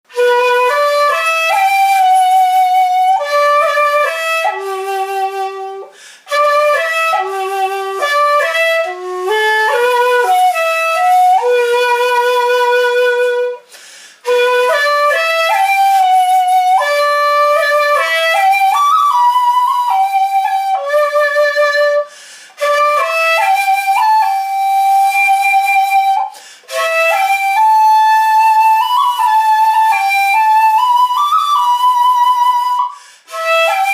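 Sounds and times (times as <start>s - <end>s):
flute playing slow melody: 0.1s - 33.9s.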